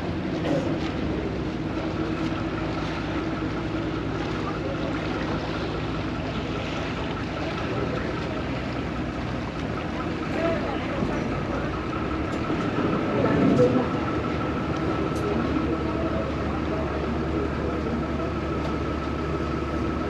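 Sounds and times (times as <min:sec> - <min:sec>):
boat engine humming: 0:00.0 - 0:20.0
rushing water: 0:00.0 - 0:20.0
wind: 0:00.0 - 0:20.0.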